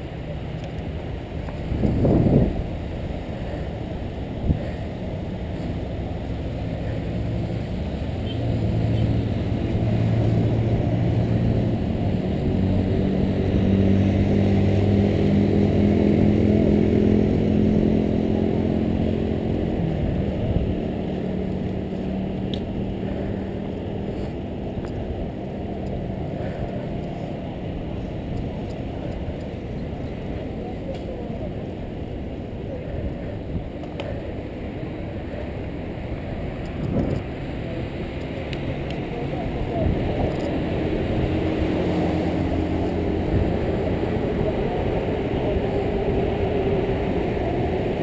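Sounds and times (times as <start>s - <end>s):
droning hum: 0.0s - 48.0s
tyres on asphalt: 0.0s - 48.0s
wind rushing over microphone: 0.0s - 48.0s.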